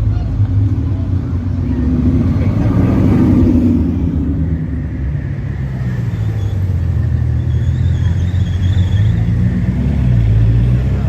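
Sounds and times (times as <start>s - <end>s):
sports car engine rumbling: 0.0s - 11.0s.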